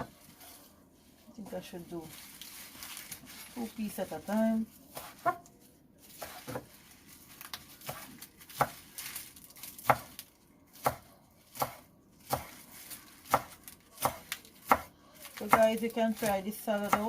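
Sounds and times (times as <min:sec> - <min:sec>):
knife chopping leaves: 0:01.4 - 0:17.0.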